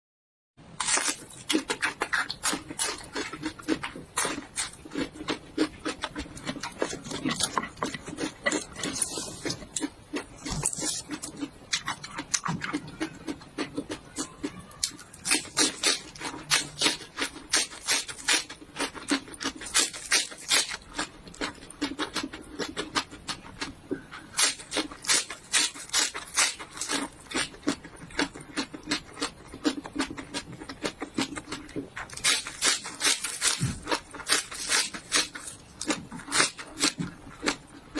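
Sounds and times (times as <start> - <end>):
crisp chewing crunches: 0.8 - 37.9.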